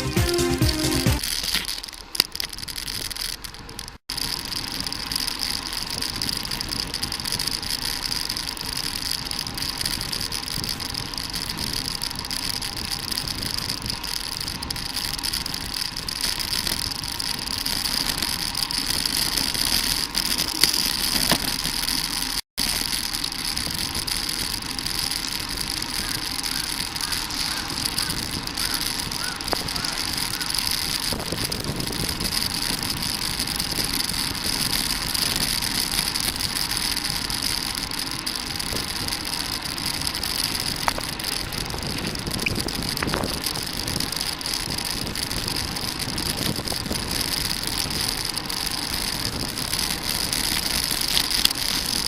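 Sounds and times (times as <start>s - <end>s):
wind noise from cycling: 1.2s - 52.0s.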